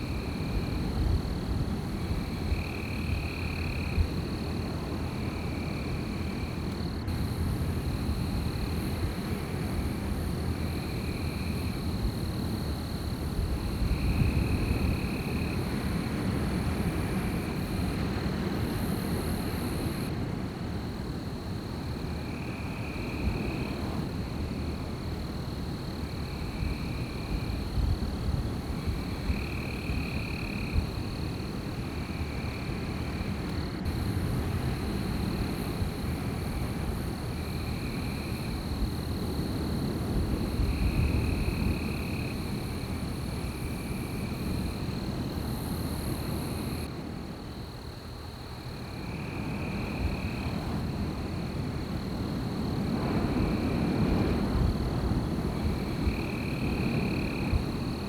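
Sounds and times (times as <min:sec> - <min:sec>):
wind blowing in gusts: 0:00.0 - 0:58.0.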